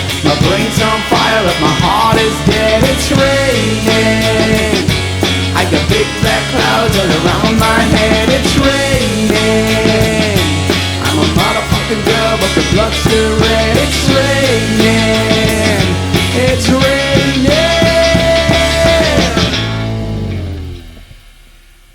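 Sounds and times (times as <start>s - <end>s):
bass: 0.0s - 21.9s
drums: 0.0s - 21.9s.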